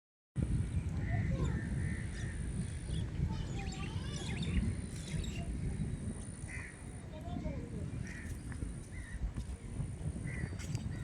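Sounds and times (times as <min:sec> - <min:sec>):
steady low rumble: 0:00.4 - 0:11.0
birds chirping: 0:00.5 - 0:11.0.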